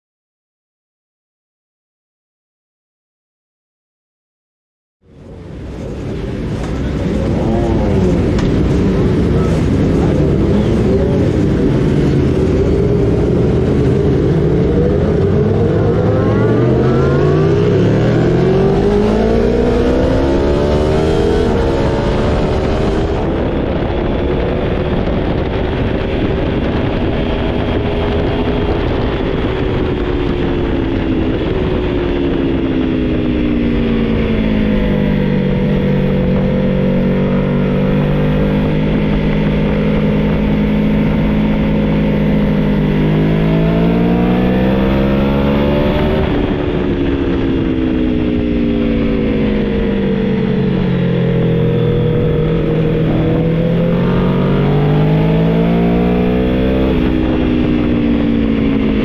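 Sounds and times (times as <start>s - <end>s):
motorcycle engine revving: 5.0s - 59.0s
wind rush: 5.0s - 59.0s.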